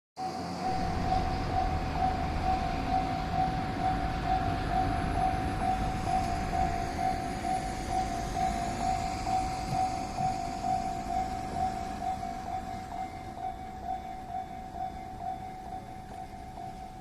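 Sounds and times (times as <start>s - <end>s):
low rumble: 0.6s - 16.6s.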